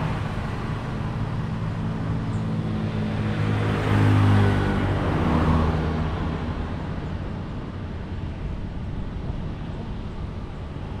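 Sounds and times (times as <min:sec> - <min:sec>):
distant city traffic hum: 0:00.0 - 0:11.0.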